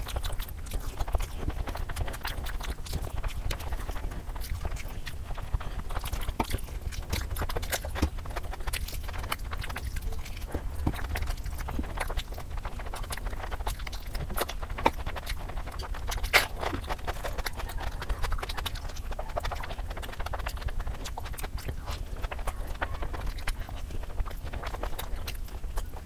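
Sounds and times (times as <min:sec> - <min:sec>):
crunchy chewing: 0:00.0 - 0:26.0
wet mouth clicks and smacks: 0:00.0 - 0:26.0.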